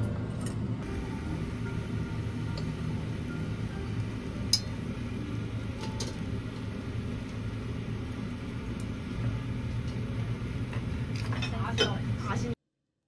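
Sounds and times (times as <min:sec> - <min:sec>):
extraction fan rumble: 0:00.0 - 0:12.6.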